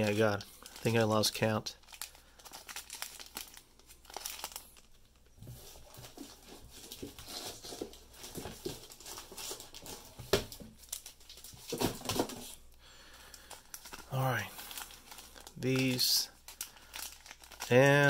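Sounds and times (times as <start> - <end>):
plastic bags crinkling: 0.0 - 12.6, 13.2 - 18.0.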